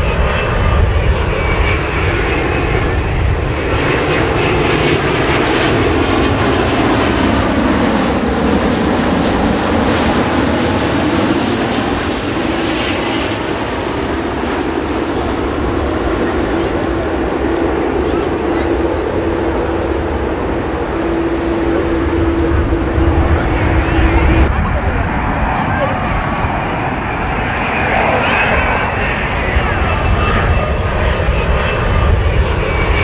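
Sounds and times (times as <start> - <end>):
jet airliner rumble overhead: 0.0 - 33.0.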